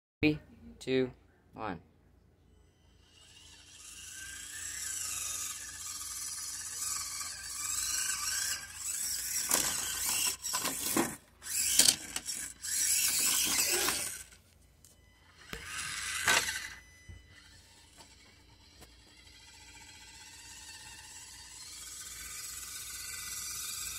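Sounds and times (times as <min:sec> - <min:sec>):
toy car motor whining: 0:02.5 - 0:23.9.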